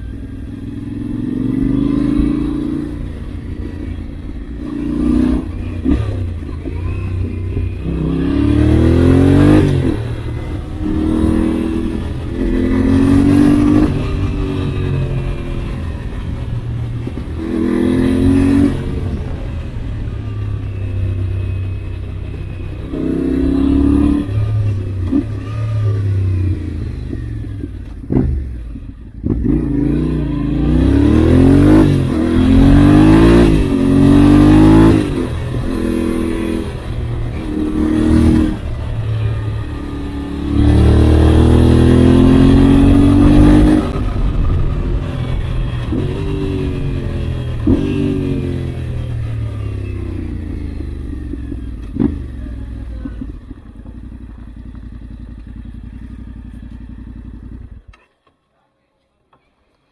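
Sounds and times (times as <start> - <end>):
motorcycle engine revving: 0.0 - 58.2.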